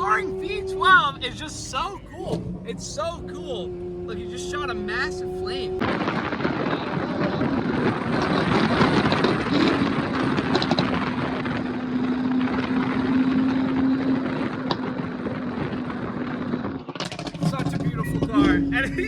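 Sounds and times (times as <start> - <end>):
engine pops: 0.0 - 11.8, 14.3 - 19.0
car engine droning: 0.0 - 19.0.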